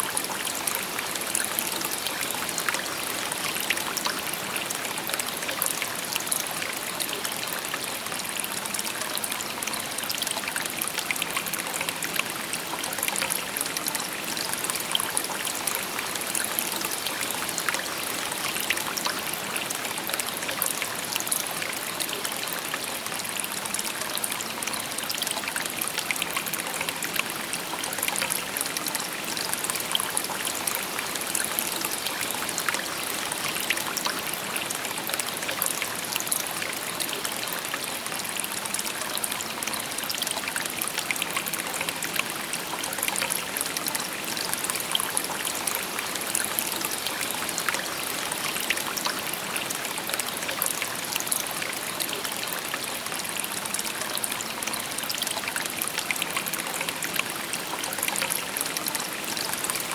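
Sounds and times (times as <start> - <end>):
babbling brook: 0.0 - 59.9.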